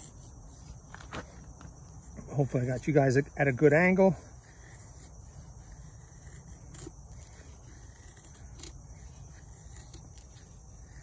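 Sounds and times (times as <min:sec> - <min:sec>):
high insect drone: 0:00.0 - 0:11.0
knife scraping wood: 0:00.0 - 0:11.0.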